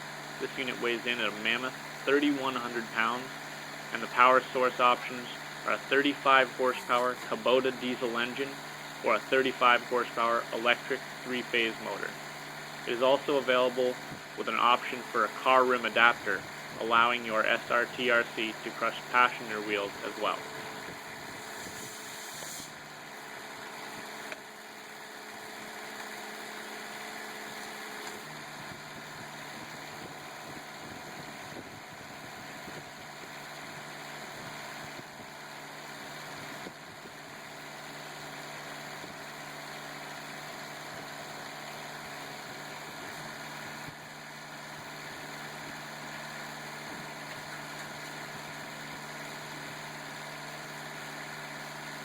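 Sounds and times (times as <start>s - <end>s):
hydraulic pump drone: 0.0s - 52.0s.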